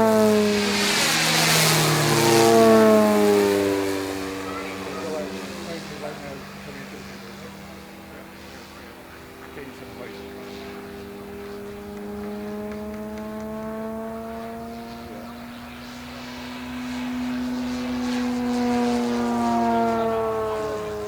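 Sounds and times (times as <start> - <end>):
model plane propeller whine: 0.0 - 21.0.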